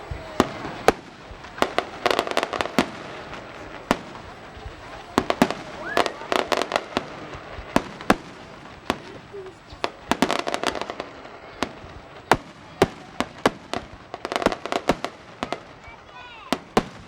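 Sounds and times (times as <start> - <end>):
fireworks bangs and cracks: 0.0 - 17.0
fireworks crackling: 0.0 - 17.0.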